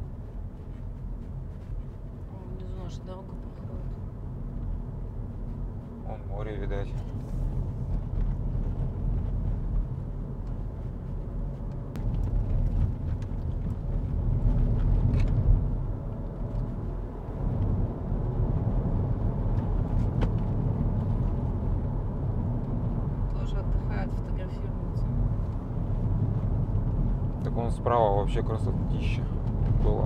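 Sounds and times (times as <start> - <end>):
car engine and tyres rumbling: 0.0 - 30.0.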